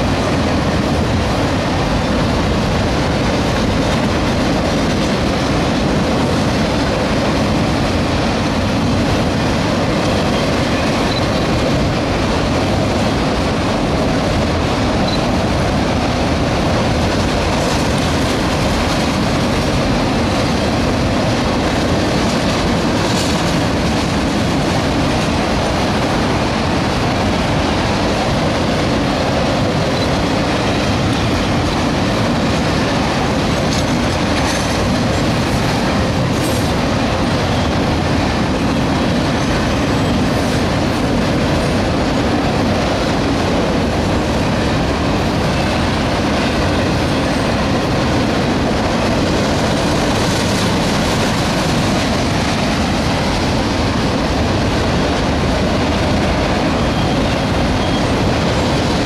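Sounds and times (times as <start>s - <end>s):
steel wheels running on rail: 0.0s - 59.0s.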